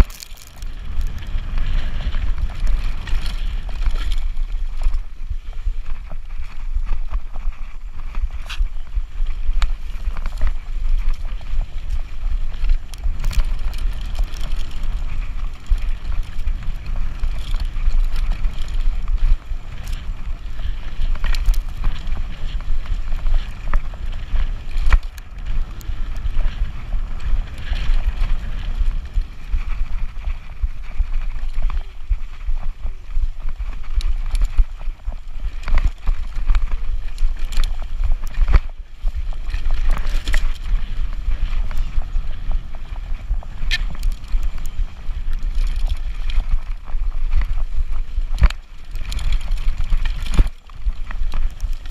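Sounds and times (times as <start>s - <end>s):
bike clicking and rattling: 0.0s - 51.9s
tyres rumbling on dirt trail: 0.0s - 51.9s
wind on microphone: 0.0s - 51.9s.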